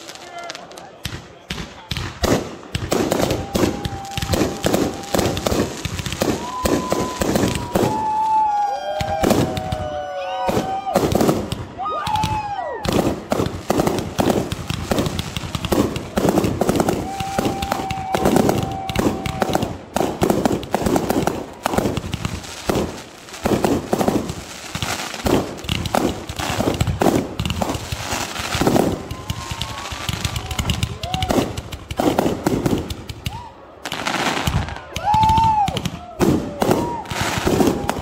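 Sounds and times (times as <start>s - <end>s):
firework shell bursts and crackling: 0.0s - 8.4s, 10.5s - 38.0s.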